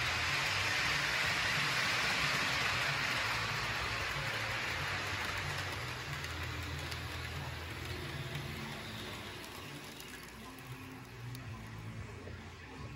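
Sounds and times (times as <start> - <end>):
wheels hissing on rail: 0.0 - 11.7.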